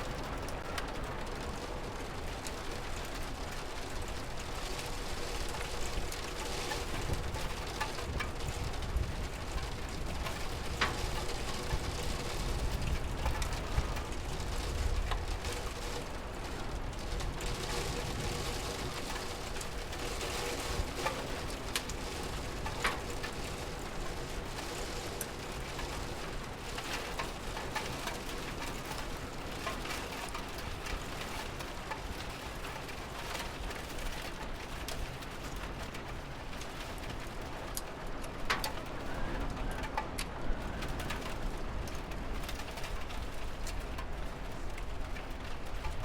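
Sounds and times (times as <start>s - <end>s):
steady rain: 0.0s - 46.0s.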